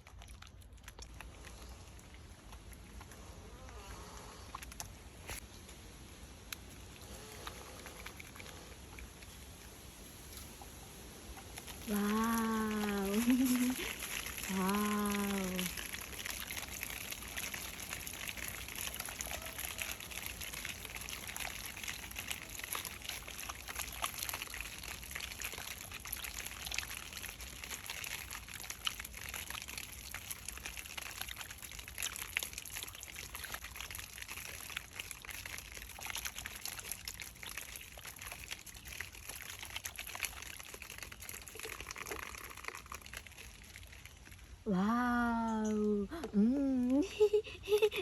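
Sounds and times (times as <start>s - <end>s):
water trickling and pouring: 0.0s - 46.1s
small drips and clicks: 0.0s - 48.0s.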